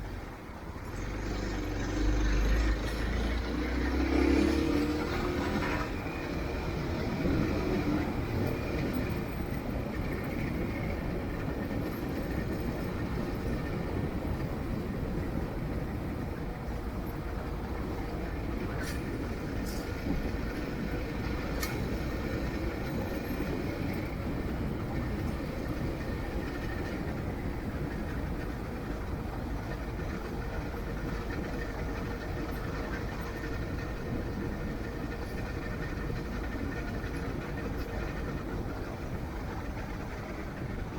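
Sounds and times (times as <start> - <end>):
moving vehicle rumble: 0.0 - 40.9.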